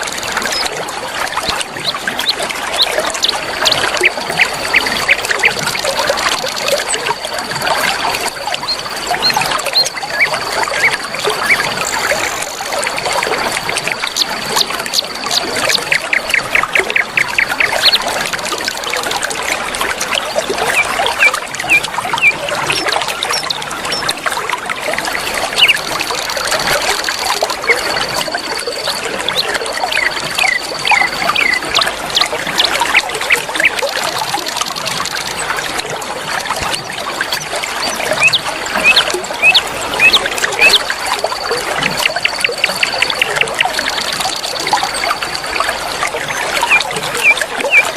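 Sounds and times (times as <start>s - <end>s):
bird chirps and trills: 0.0s - 19.5s, 20.2s - 24.3s, 25.1s - 34.4s, 36.6s - 47.9s
river water flowing: 0.0s - 47.9s.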